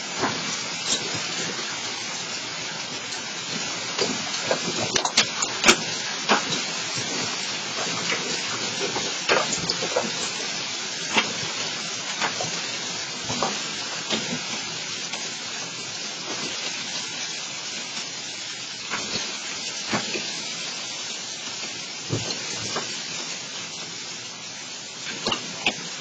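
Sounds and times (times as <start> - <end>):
hailstones striking: 0.0 - 26.0
heavy rain: 0.0 - 26.0.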